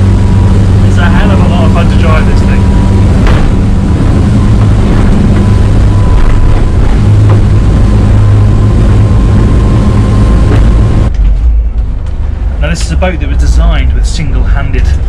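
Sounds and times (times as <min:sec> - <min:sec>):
motorboat engine drone: 0:00.0 - 0:15.0
wind buffeting microphone: 0:00.0 - 0:15.0.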